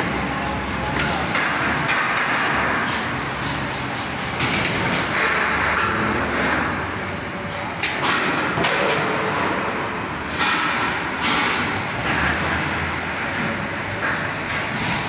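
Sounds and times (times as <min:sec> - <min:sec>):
industrial hum: 0:00.0 - 0:15.0.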